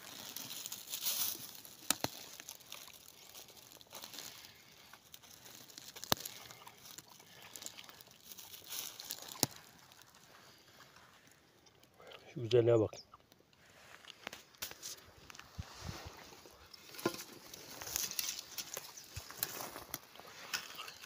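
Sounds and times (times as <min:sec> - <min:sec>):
dry leaves rustling and crunching: 0:00.0 - 0:11.4, 0:14.6 - 0:21.0.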